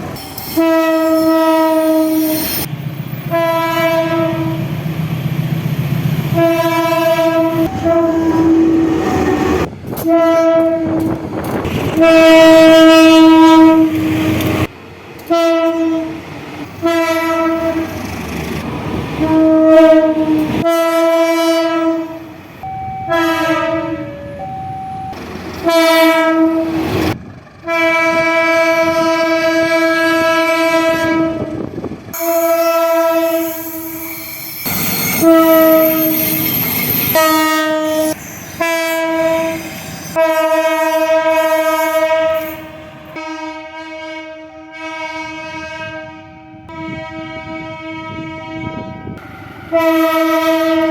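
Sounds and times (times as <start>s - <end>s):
train running: 0.0s - 50.9s
locomotive air horn blasts: 0.5s - 4.7s, 6.3s - 14.6s, 15.3s - 16.2s, 16.8s - 18.0s, 19.2s - 24.3s, 25.6s - 27.0s, 27.6s - 50.9s.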